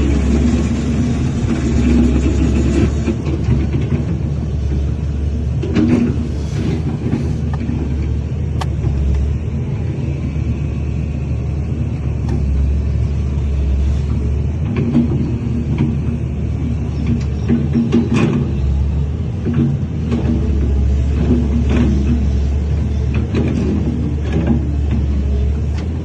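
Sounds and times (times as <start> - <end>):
heavy diesel machinery rumbling: 0.0 - 26.0.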